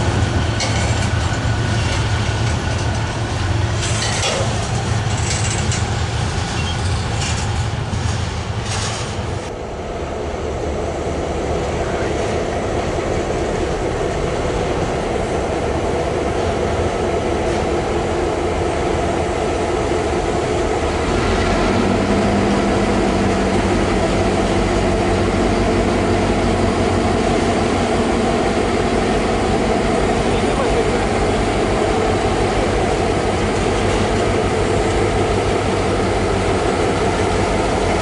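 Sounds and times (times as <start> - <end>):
diesel locomotive engine hum: 0.0 - 38.0
freight train rumbling on bridge: 0.0 - 38.0.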